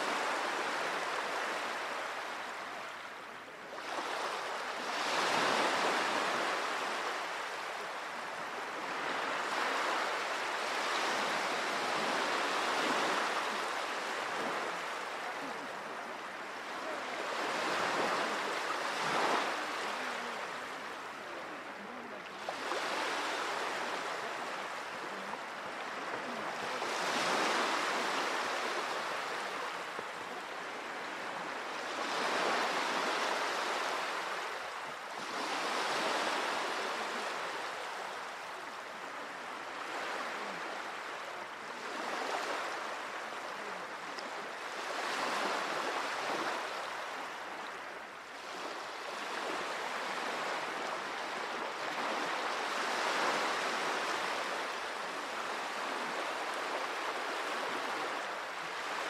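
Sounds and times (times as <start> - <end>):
small waves washing ashore: 0.0 - 59.0.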